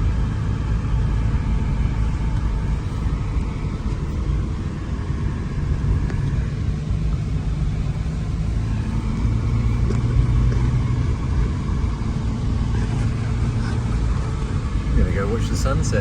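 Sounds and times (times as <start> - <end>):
car engine: 0.0 - 16.0
road rumble: 0.0 - 16.0.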